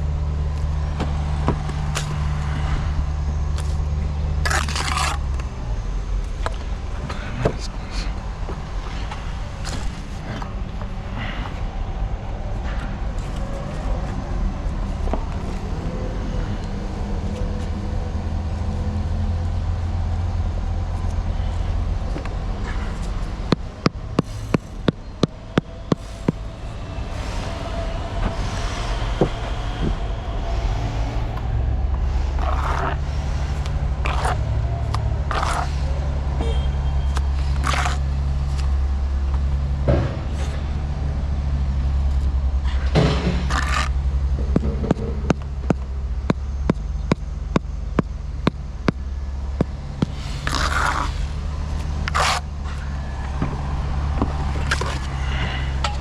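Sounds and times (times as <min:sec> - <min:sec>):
motor engine rumbling: 0:00.0 - 0:56.0.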